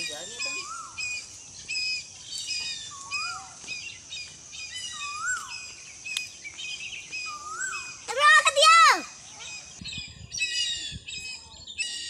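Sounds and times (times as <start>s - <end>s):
bird call rising and falling: 0.0s - 12.0s.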